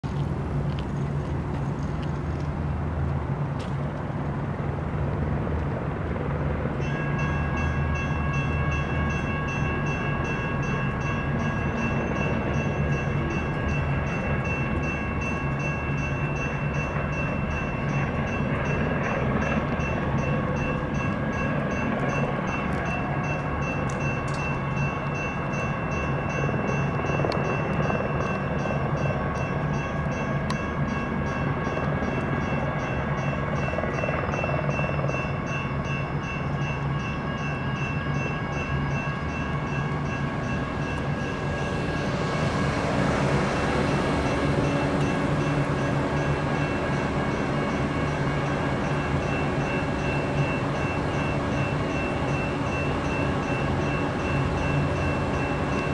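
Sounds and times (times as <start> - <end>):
crossing bells ringing: 6.2 - 55.9.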